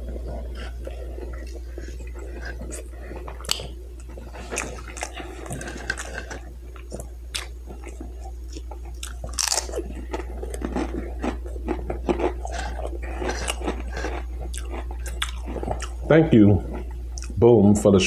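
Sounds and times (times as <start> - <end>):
person chewing crunchy food: 0.0 - 17.4
low hum: 0.0 - 18.0.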